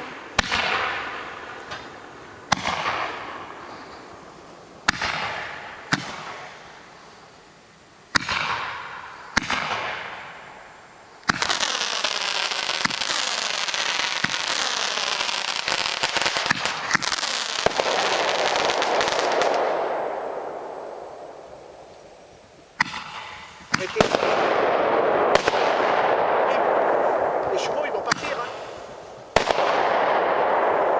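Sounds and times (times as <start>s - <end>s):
firework bangs with hiss: 0.0s - 6.9s, 8.1s - 30.9s
fireworks crackling with pops: 0.0s - 7.4s, 8.1s - 30.9s.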